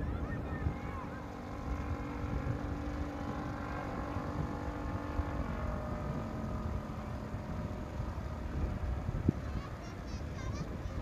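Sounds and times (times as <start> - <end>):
engine drone: 0.0 - 11.0
wind rumbling on microphone: 0.0 - 11.0.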